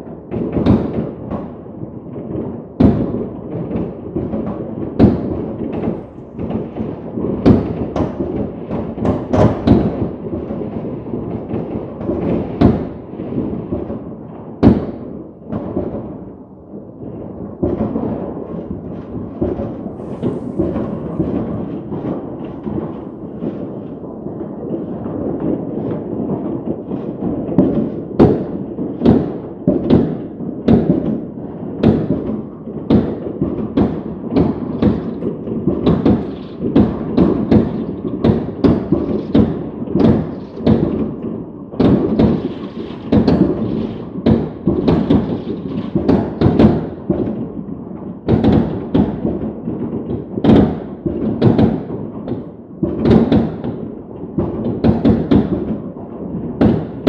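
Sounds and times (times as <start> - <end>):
fireworks booming: 0.0 - 57.0.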